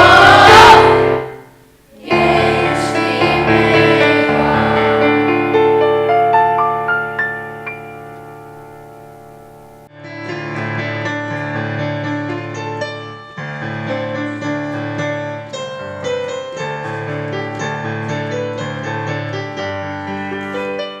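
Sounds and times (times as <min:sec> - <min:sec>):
piano chords and melody: 0:00.0 - 0:21.0.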